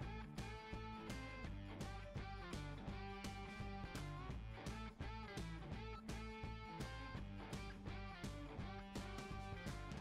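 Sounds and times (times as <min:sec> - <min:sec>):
instrumental music with guitar and beat: 0:00.0 - 0:10.0.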